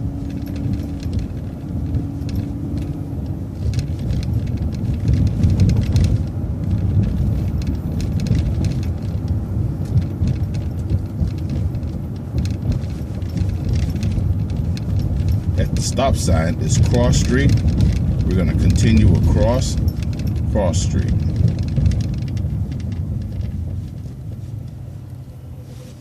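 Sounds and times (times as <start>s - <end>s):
bus body rattling: 0.0s - 26.0s
bus engine and road rumble: 0.0s - 26.0s
steady engine tone: 0.0s - 26.0s.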